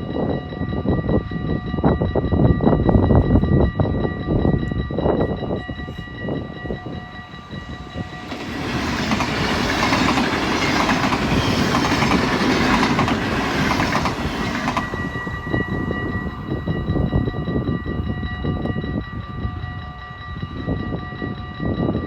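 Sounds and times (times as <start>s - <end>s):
crossing warning bell ringing: 0.0s - 22.0s
train rolling: 0.1s - 22.0s.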